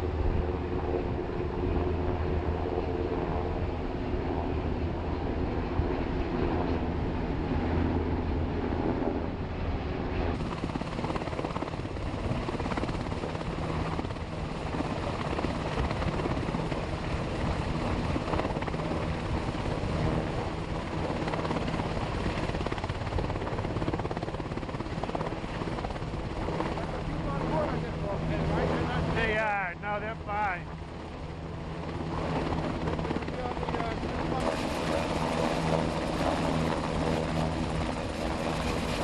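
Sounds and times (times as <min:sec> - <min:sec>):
helicopter rotor and engines: 0:00.0 - 0:39.0.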